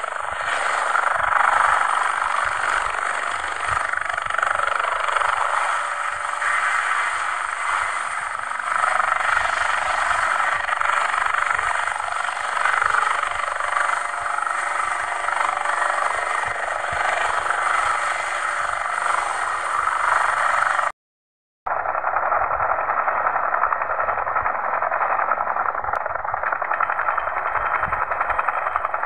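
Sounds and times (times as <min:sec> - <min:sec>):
helicopter hovering: 0:00.0 - 0:21.0, 0:21.7 - 0:29.0.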